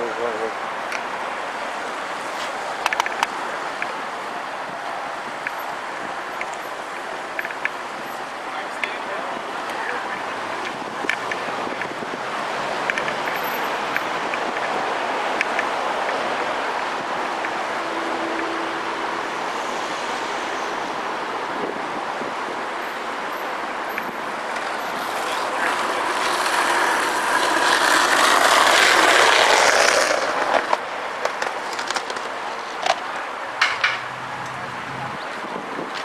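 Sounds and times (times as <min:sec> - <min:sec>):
car passing: 0:00.0 - 0:36.0
outdoor background noise: 0:00.0 - 0:36.0.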